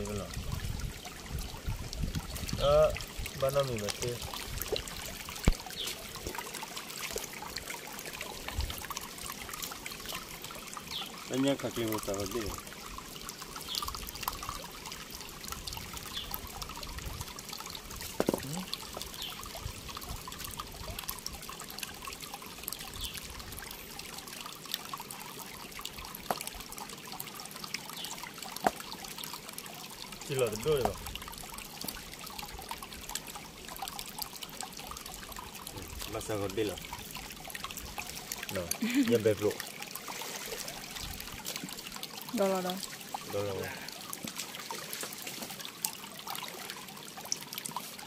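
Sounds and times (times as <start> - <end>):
water trickling: 0.0 - 48.0.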